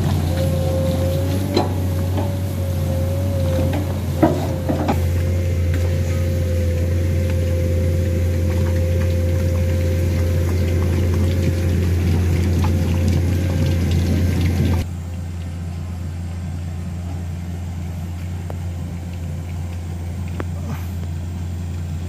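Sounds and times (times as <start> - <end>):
excavator diesel engine running: 0.0 - 22.0
steady whine: 0.0 - 22.0.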